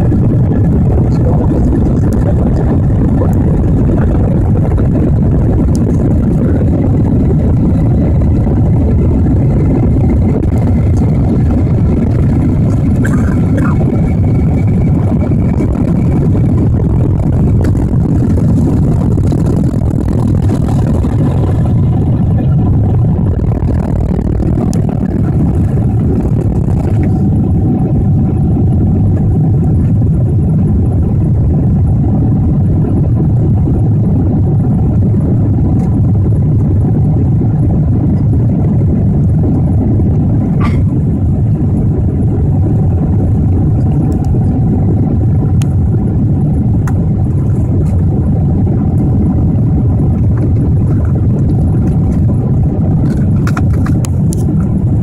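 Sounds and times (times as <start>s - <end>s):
airplane cabin engine roar: 0.0s - 55.0s.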